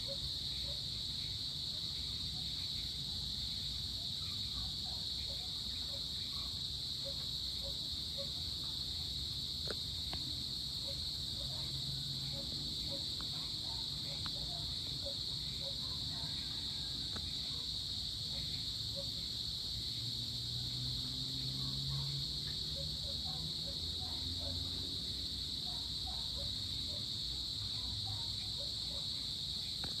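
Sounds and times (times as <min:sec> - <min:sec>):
high-pitched insect trill: 0:00.0 - 0:30.0.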